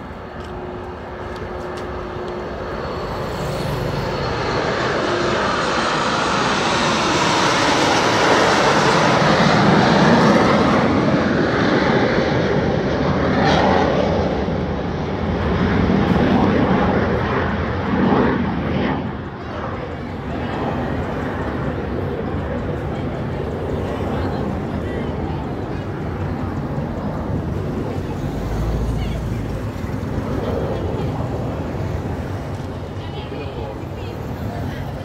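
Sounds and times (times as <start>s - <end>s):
jet aircraft flying past: 0.0s - 35.0s.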